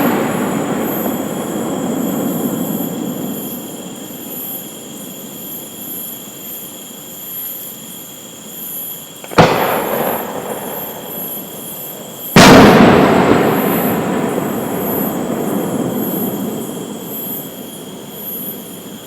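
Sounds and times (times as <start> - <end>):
fireworks booming and rumbling: 0.0 - 6.6, 9.2 - 19.0.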